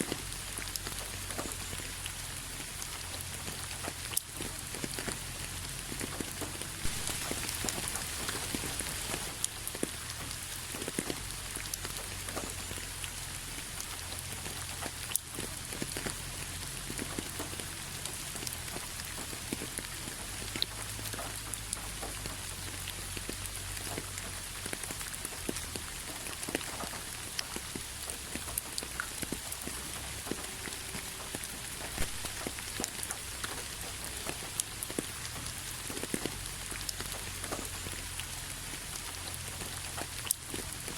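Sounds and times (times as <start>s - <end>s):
raindrops pattering on a surface: 0.0s - 40.9s
steady rain falling: 0.0s - 40.9s.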